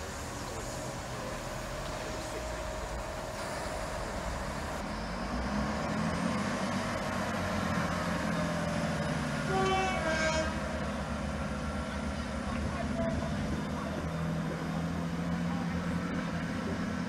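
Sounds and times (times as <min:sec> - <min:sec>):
train diesel engines humming: 0:00.0 - 0:17.0.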